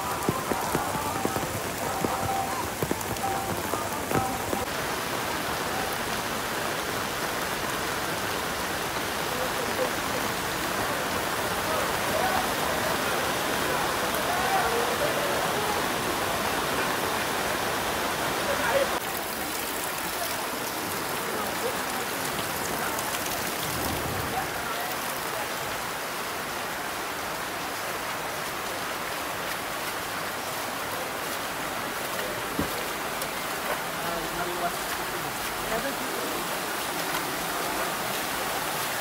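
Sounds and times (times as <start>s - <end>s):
heavy rain falling: 0.0s - 39.0s
rainwater rushing along floor: 0.0s - 39.0s.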